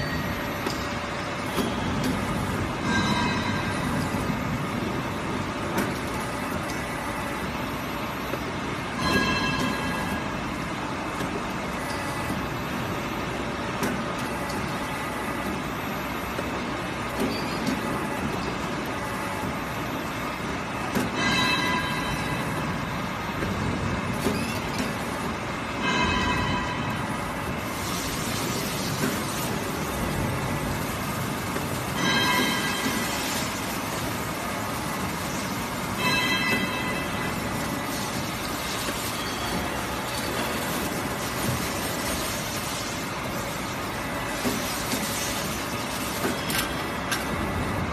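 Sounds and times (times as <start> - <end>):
machine mechanical hum: 0.0 - 47.9.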